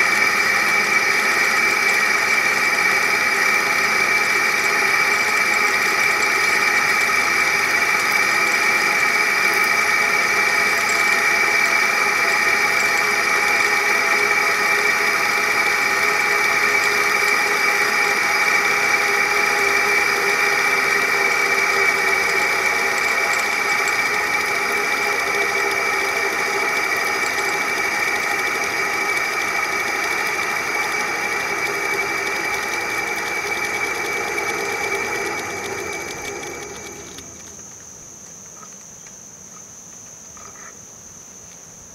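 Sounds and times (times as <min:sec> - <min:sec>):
cable car machinery whirring: 0:00.0 - 0:37.8.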